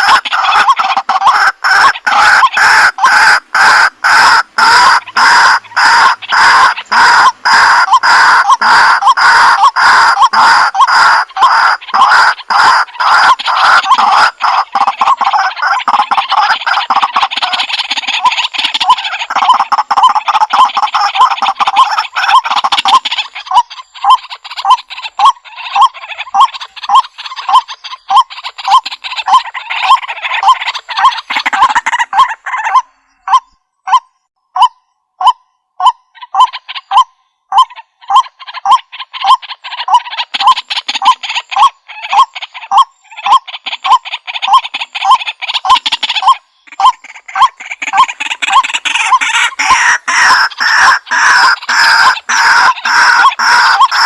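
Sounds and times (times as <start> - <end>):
harsh chattering bird chorus: 0.0 - 33.6, 36.1 - 54.0
waterhens kwak calls: 0.0 - 54.0.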